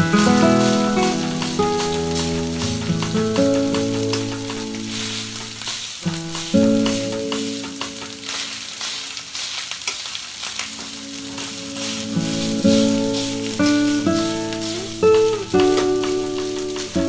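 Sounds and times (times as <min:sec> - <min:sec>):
music with plucked notes: 0:00.0 - 0:08.5, 0:10.7 - 0:17.0
rice sizzling in a frying pan: 0:00.0 - 0:17.0.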